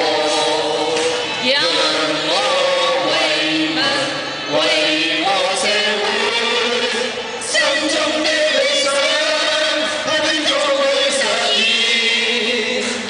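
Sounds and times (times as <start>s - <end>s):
men singing in unison: 0.0s - 13.0s.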